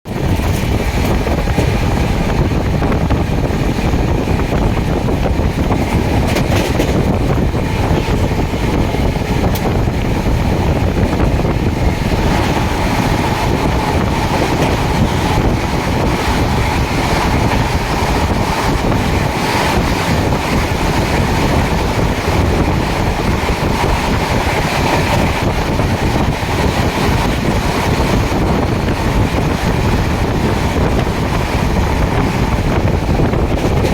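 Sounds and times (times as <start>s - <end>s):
train rolling rumble: 0.0s - 33.9s
wind buffeting microphone: 0.0s - 33.9s.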